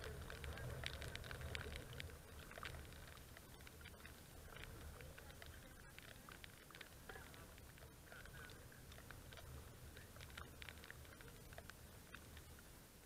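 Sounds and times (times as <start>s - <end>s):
light rain ticking on camera: 0.0s - 13.0s.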